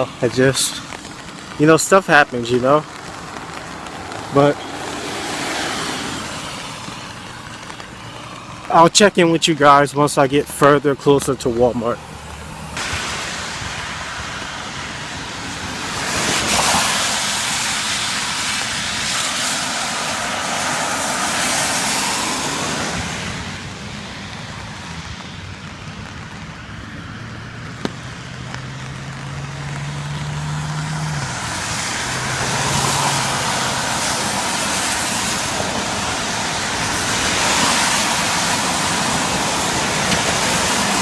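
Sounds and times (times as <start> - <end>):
tyre hiss on wet road: 0.0 - 10.2, 11.2 - 41.0.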